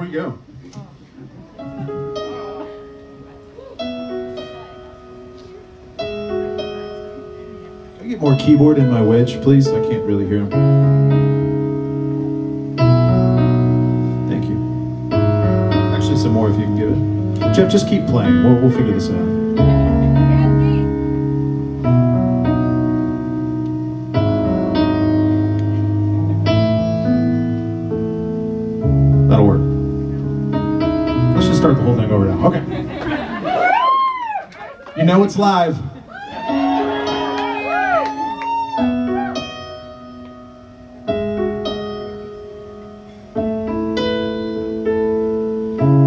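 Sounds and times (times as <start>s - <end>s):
keyboard piano chords: 1.4s - 34.0s, 34.6s - 46.0s.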